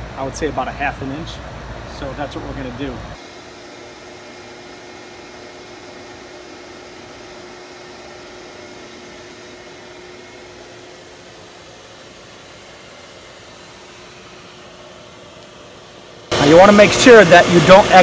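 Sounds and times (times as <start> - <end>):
high whine: 0.0 - 18.0
shop vac running: 0.0 - 18.0.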